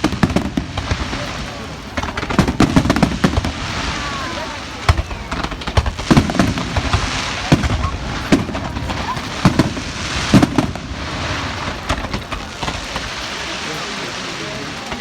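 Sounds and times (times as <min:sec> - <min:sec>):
firework whistles: 0:00.0 - 0:15.0
fireworks bangs and crackles: 0:00.0 - 0:15.0
noisy rumble: 0:00.0 - 0:15.0.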